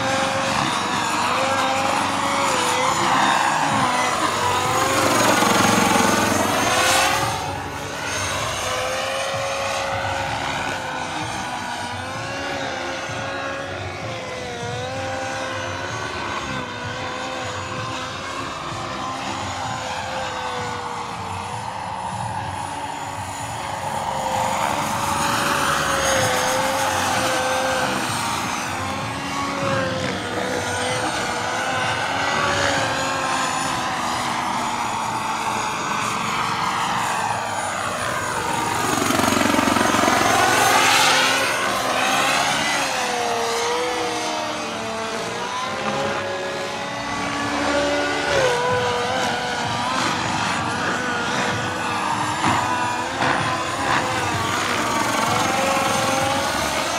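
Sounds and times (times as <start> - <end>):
helicopter rotor noise: 0.0 - 56.9
model helicopter turbine whine: 0.0 - 56.9.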